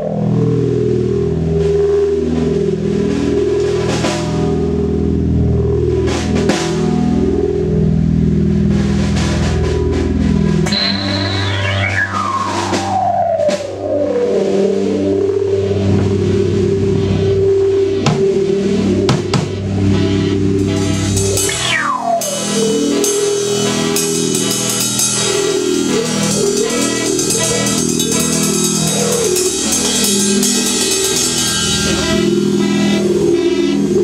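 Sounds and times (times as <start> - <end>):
droning chord: 0.0 - 34.0
rock band playing: 6.0 - 34.0.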